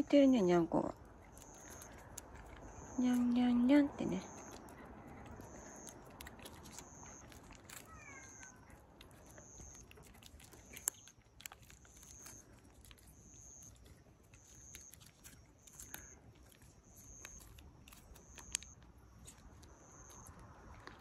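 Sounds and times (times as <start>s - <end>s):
cat licking and lapping: 0.9s - 21.0s
faint high chirp: 1.4s - 20.4s.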